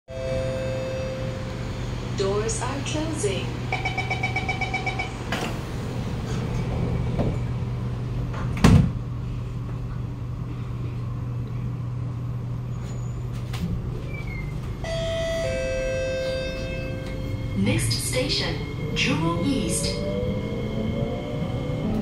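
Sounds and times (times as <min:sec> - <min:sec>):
low equipment hum: 0:00.2 - 0:22.0.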